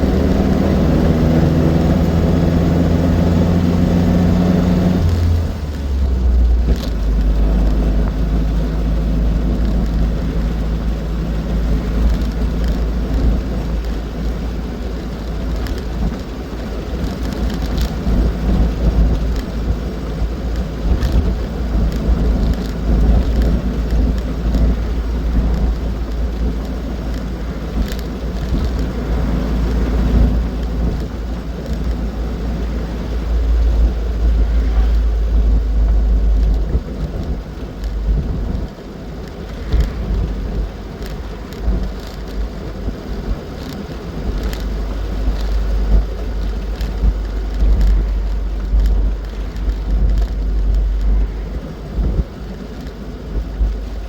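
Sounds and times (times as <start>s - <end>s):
car engine and road noise: 0.0s - 54.0s
wind rumble on microphone: 0.0s - 54.0s.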